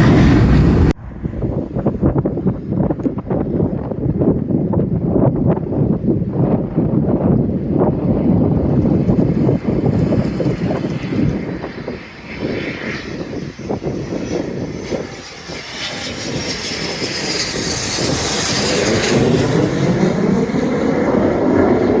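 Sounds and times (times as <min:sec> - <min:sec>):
aircraft engine flying past: 0:00.0 - 0:22.0
wind buffeting microphone: 0:00.0 - 0:22.0.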